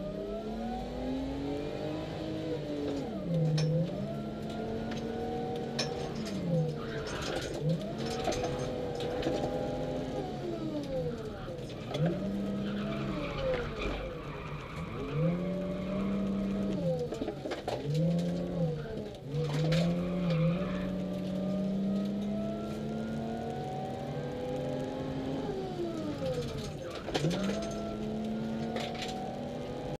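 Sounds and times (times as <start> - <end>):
car engine accelerating with gear shifts: 0.0 - 30.0.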